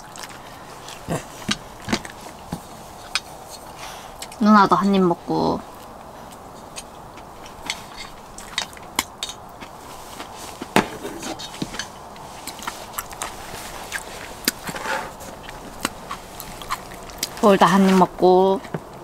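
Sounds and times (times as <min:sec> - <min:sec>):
snack crunching and chewing: 0:00.0 - 0:04.4, 0:05.7 - 0:17.4
low background hiss: 0:00.0 - 0:19.0.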